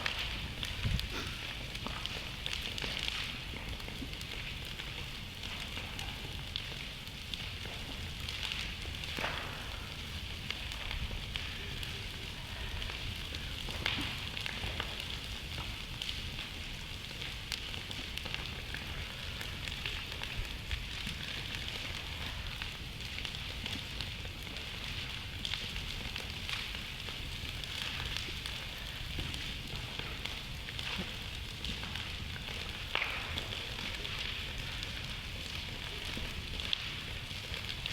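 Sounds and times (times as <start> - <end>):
bonfire crackling and popping: 0.0 - 37.9.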